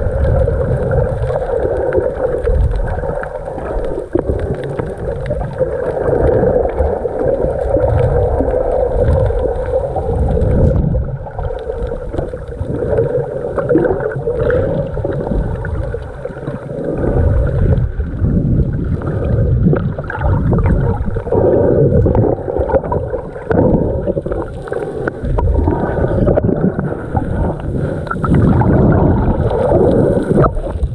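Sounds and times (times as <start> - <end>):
muffled underwater surf sloshing: 0.0 - 30.9.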